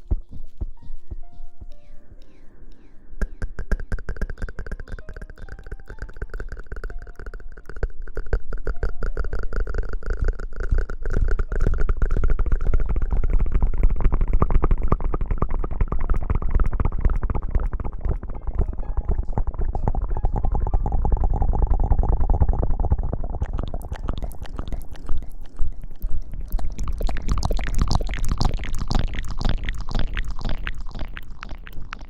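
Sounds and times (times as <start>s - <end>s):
crackling and rubbing on microphone: 0.0s - 1.9s, 2.8s - 32.0s.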